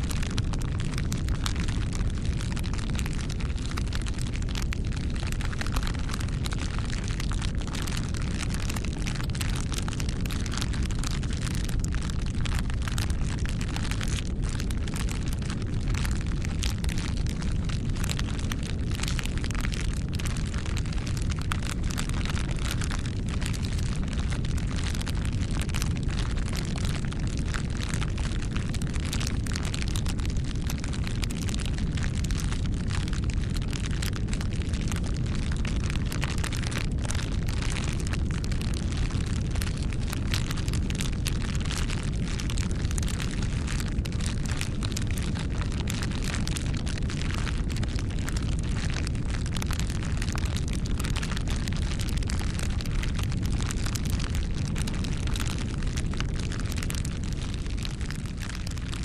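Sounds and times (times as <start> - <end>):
low rumble of flames: 0.0 - 59.0
wood fire crackling: 0.1 - 59.0.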